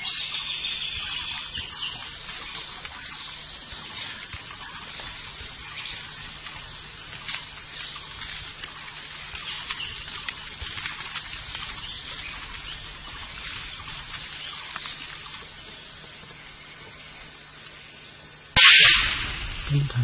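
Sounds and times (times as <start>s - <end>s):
small ticks: 0.0s - 17.8s
steady high hiss: 0.0s - 20.0s.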